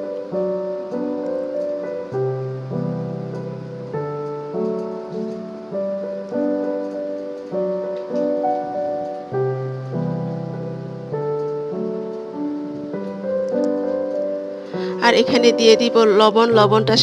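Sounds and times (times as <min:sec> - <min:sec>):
soft piano notes and chords: 0:00.0 - 0:17.0.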